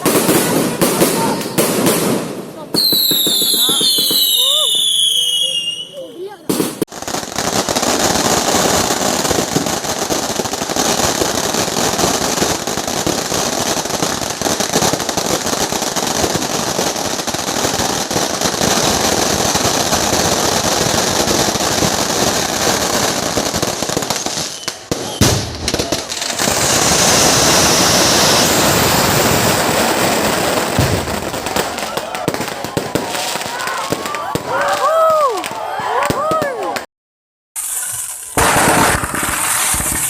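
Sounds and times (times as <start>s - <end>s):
firecrackers crackling: 0.0s - 36.9s, 37.6s - 40.0s.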